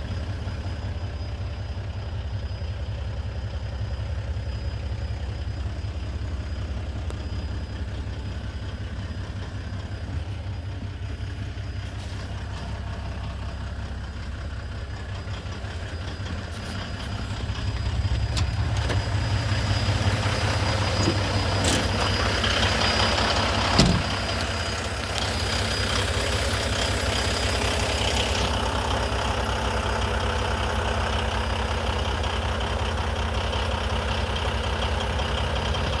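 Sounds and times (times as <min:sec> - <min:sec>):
diesel truck engine idling: 0:00.0 - 0:36.0.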